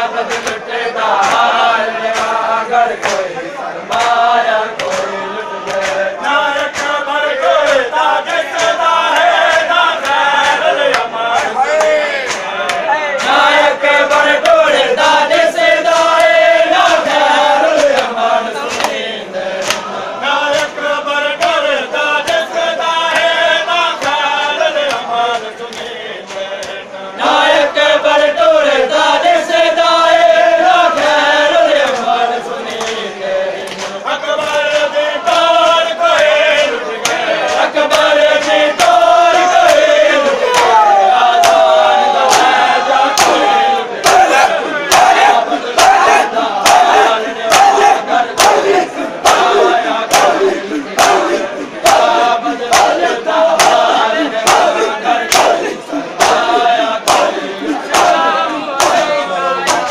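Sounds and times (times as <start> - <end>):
men chanting together: 0.0 - 59.9
hands slapping bare chests: 0.2 - 19.9, 21.4 - 26.8, 32.7 - 33.0, 33.6 - 36.4, 37.0 - 59.9.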